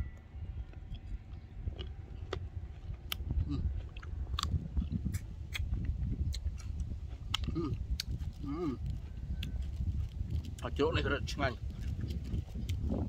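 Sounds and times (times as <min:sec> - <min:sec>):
steady low rumble: 0:00.0 - 0:13.0
person chewing crisp apple: 0:00.7 - 0:10.8, 0:11.5 - 0:13.0.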